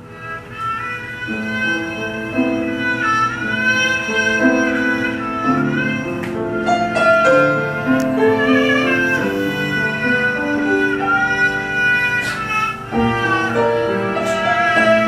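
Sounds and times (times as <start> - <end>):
bowed string melody: 0.0 - 15.0.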